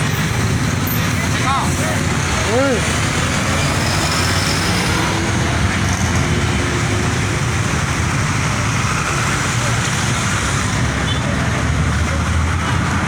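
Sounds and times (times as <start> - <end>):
tyres on road: 0.0 - 13.0
vehicle engines: 0.0 - 13.0.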